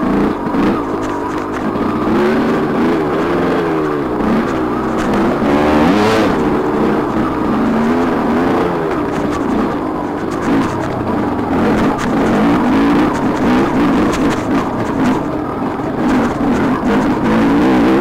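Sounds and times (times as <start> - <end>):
dirt bike engine revving: 0.0 - 18.0
steady rushing noise: 0.0 - 18.0.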